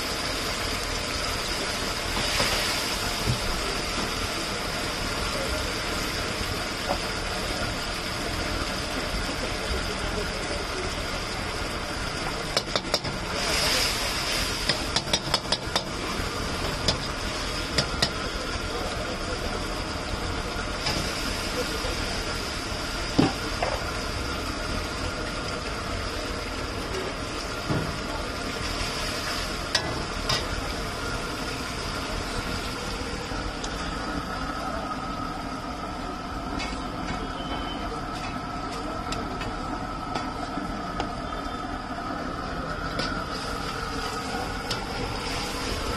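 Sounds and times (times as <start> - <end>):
gas burner roaring: 0.0 - 45.9
steady rumble and hiss: 0.0 - 45.9.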